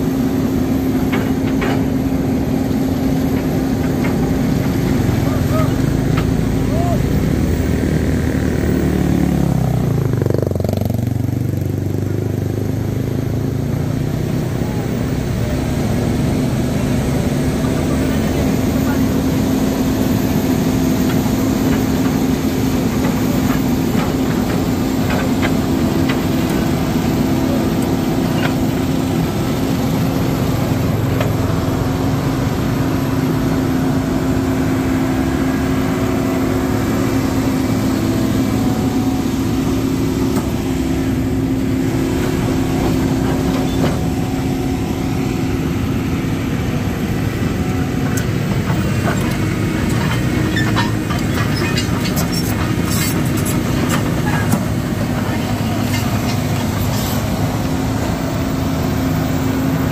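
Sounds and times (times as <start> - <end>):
heavy truck engine running: 0.0 - 59.9.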